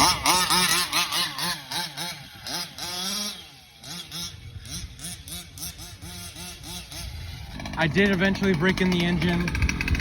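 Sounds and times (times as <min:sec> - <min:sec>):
small two-stroke engine revving: 0:00.0 - 0:10.0.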